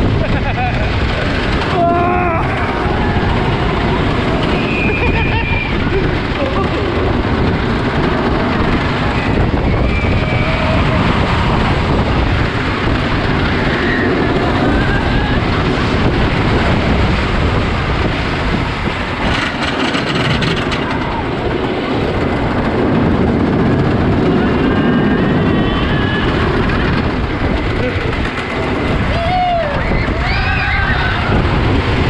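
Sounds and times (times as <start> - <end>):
roller coaster rumbling and rattling: 0.0 - 32.0
rushing wind: 0.0 - 32.0.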